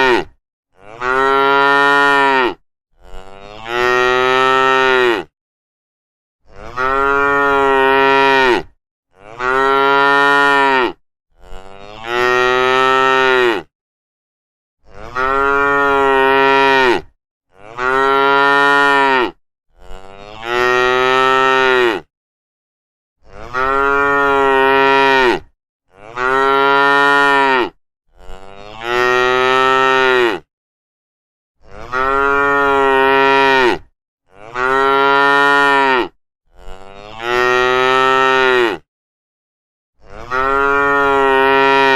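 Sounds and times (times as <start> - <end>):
cattle mooing: 0.0 - 5.3, 6.5 - 13.7, 14.9 - 22.1, 23.3 - 30.5, 31.6 - 38.8, 40.1 - 41.9.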